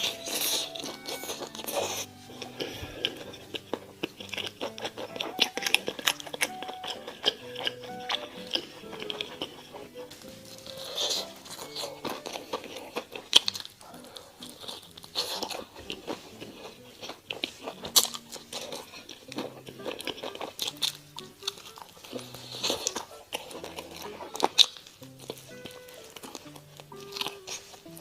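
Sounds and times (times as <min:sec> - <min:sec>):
crunchy bites and chewing: 0:00.0 - 0:28.0
soft background music: 0:00.0 - 0:28.0.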